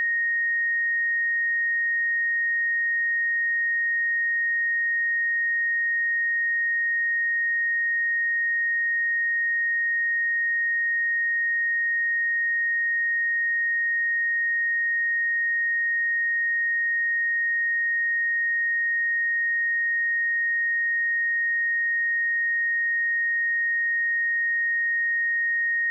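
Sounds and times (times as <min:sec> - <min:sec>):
sine wave test tone: 0:00.0 - 0:25.9.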